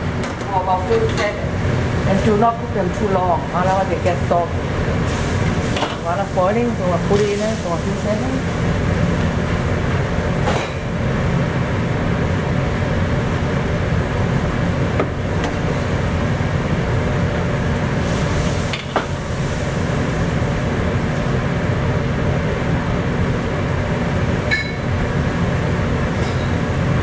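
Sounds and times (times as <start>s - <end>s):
gas burner roaring: 0.0s - 27.0s.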